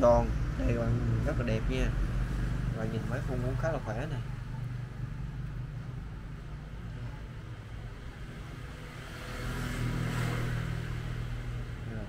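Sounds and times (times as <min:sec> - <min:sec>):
traffic engine hum: 0:00.0 - 0:12.0
vehicle passing: 0:00.0 - 0:12.0.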